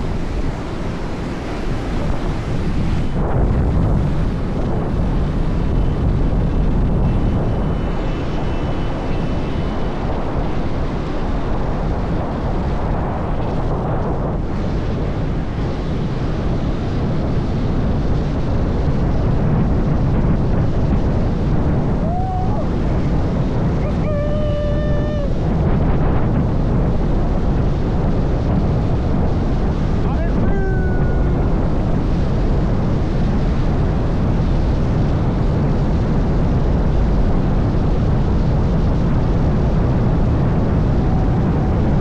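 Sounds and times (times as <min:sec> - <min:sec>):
road rumble: 0:00.0 - 0:18.3, 0:19.1 - 0:42.0
wind buffeting microphone: 0:00.0 - 0:42.0.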